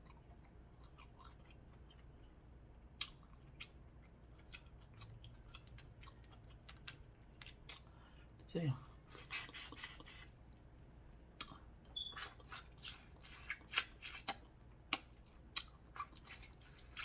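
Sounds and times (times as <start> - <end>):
chewing and sucking on seafood: 0.0 - 8.4, 9.0 - 10.6, 11.4 - 17.0.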